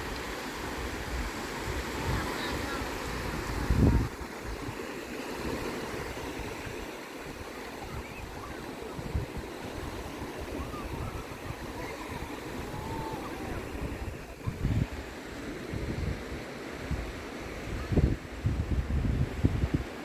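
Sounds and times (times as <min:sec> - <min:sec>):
surf washing on shore: 0:00.0 - 0:20.0
wind buffeting microphone: 0:00.8 - 0:20.0.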